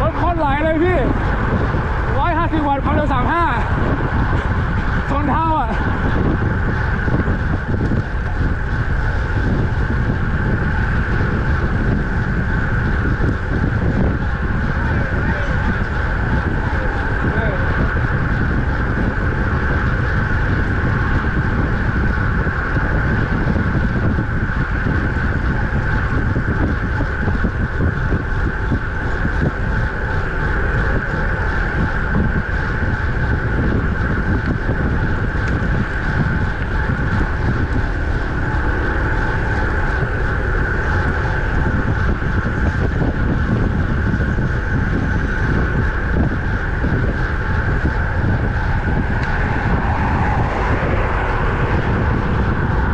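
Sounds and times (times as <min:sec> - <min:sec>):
bicycle tyre and road noise: 0:00.0 - 0:52.9
wind rushing over microphone: 0:00.0 - 0:52.9.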